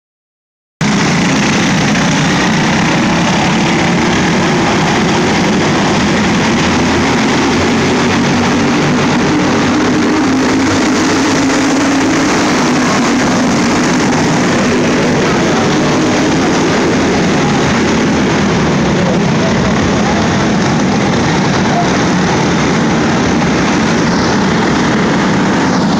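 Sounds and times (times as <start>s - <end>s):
go-kart engines racing: 0.8s - 25.9s.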